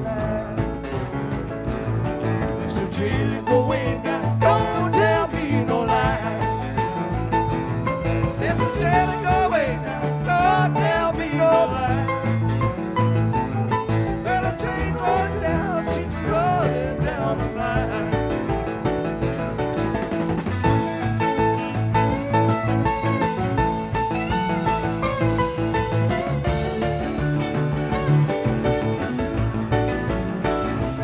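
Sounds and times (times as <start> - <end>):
blues-rock band playing: 0.0 - 31.0
lead electric guitar: 0.0 - 31.0.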